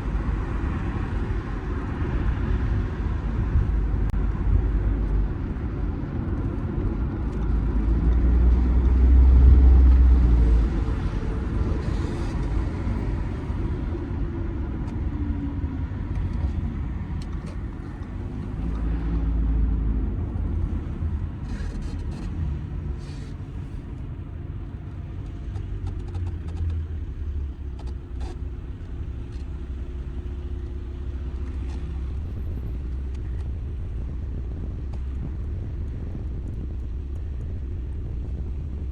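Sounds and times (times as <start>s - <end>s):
diesel car engine running: 0.0s - 38.9s
road rumble: 0.0s - 38.9s.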